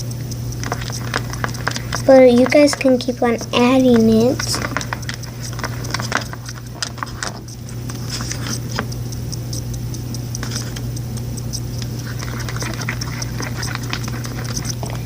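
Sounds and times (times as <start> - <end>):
constant low hum: 0.0 - 15.0
slime squishing with sticky clicks: 0.0 - 15.0.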